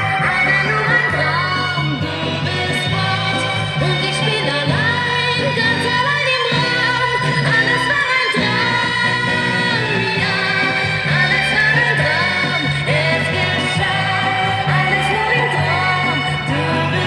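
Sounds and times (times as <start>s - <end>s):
woman singing a ballad: 0.0s - 17.0s.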